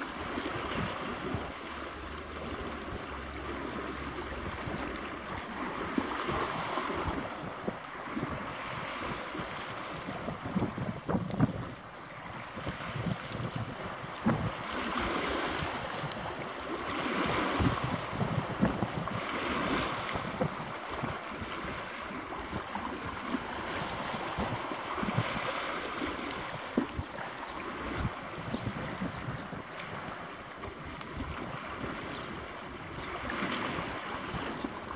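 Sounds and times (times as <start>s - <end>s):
small waves washing: 0.0s - 34.9s
wind buffeting microphone: 0.0s - 34.9s.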